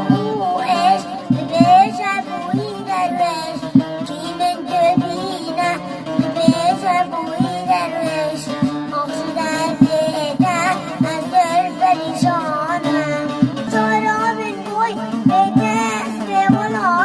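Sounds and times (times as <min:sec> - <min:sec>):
regular drum beat: 0:00.0 - 0:17.0
sustained instrumental accompaniment: 0:00.0 - 0:17.0.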